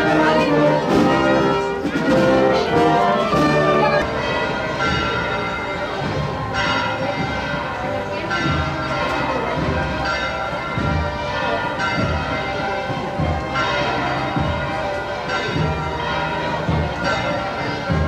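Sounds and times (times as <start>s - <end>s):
bells ringing: 0.0s - 18.0s.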